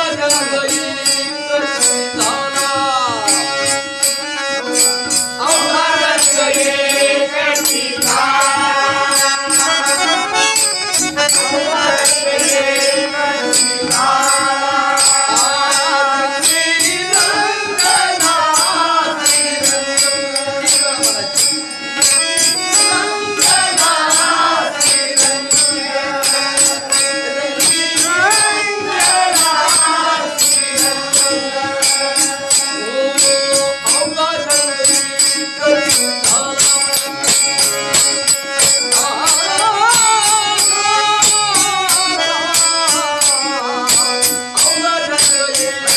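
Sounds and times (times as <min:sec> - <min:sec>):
man singing: 0:00.0 - 0:04.1, 0:05.4 - 0:45.9
held accompanying notes: 0:00.0 - 0:45.9
jingling percussion: 0:00.0 - 0:45.9.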